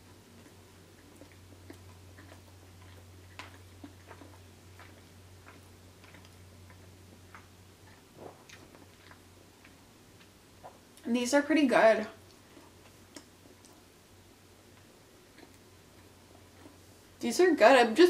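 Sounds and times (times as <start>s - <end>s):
faint low hum: 0.0s - 18.0s
wet chewing mouth clicks: 0.4s - 11.1s, 12.2s - 13.9s, 14.7s - 16.8s.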